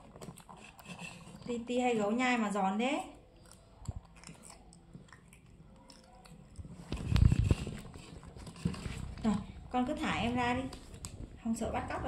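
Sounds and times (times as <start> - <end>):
crunchy chewing: 0.0 - 2.2, 3.1 - 11.3.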